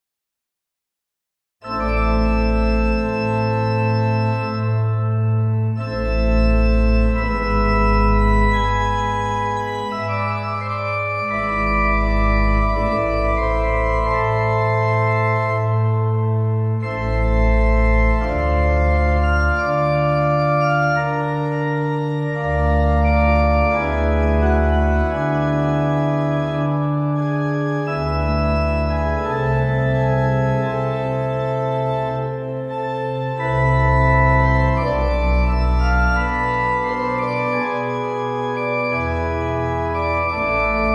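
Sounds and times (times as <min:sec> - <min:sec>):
organ chords with bass pedal: 0:01.6 - 0:40.9.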